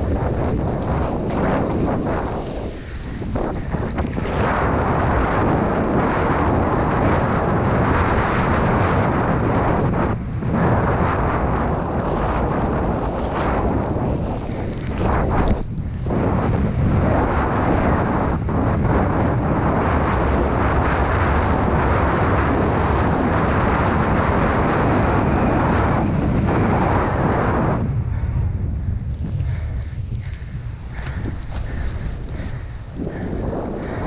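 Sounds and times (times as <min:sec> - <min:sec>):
wind buffeting camera microphone: 0:00.0 - 0:34.0.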